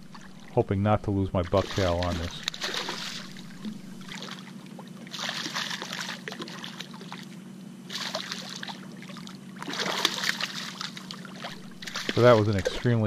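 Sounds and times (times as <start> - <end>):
steady low hum: 0.0 - 13.0
fish splashing at surface: 1.4 - 12.9.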